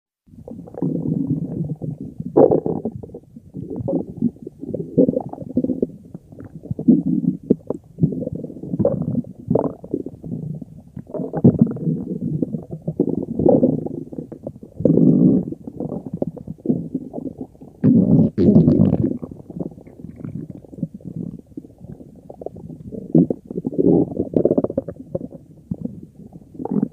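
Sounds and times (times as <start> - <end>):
stomach growling: 0.4 - 26.9.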